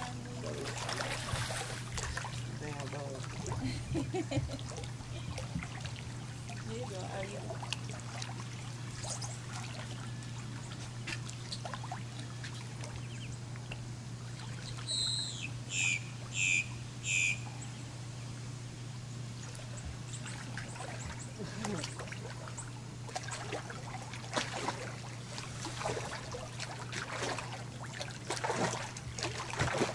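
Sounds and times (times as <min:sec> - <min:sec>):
water trickling and splashing: 0:00.0 - 0:15.0, 0:19.4 - 0:29.9
steady low hum: 0:00.0 - 0:29.9.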